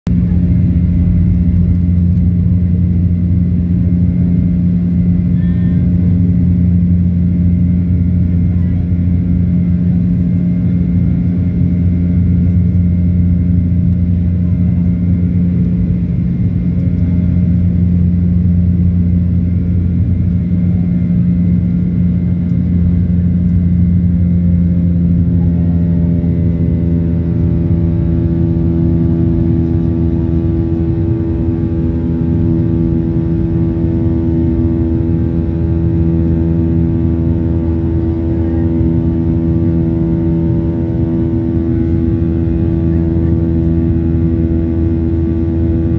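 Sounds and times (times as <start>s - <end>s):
jet engine and airflow rumble: 0.1s - 45.9s.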